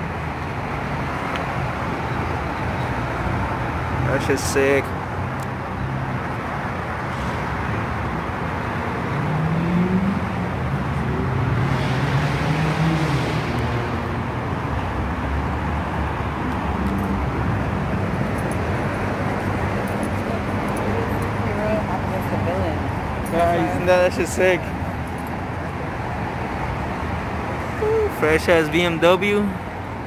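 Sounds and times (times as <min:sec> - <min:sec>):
car engines running: 0:00.0 - 0:30.0
road traffic hum: 0:00.0 - 0:30.0.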